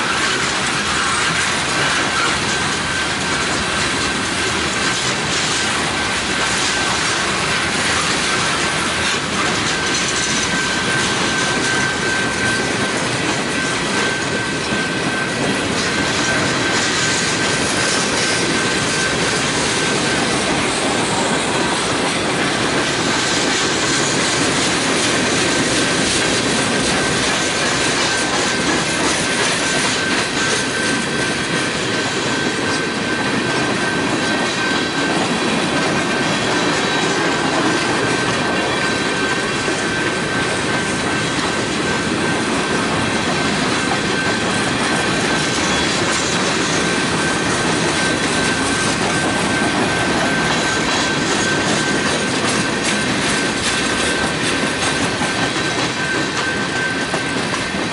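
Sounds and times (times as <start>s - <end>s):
freight cars rolling on rails: 0.0s - 57.9s.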